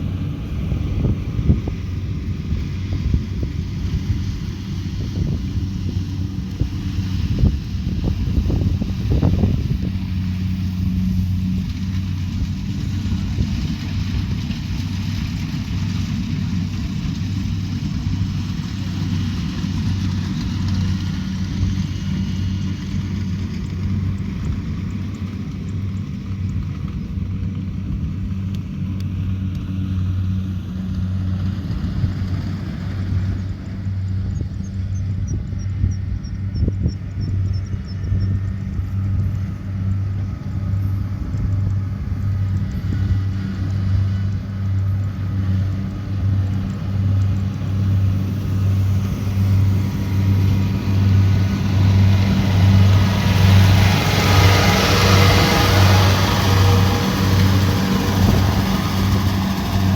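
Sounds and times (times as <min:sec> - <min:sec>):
combine harvester diesel engine: 0:00.0 - 0:59.9
harvesting machinery rattle and whir: 0:00.0 - 0:59.9.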